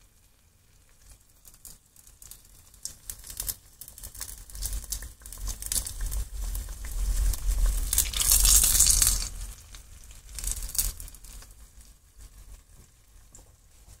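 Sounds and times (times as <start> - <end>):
hot oil sizzling and crackling: 0.0 - 14.0.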